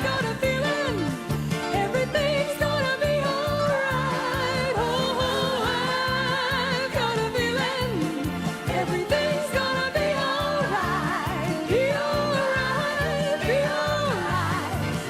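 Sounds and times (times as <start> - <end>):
song with steady beat: 0.0 - 15.0.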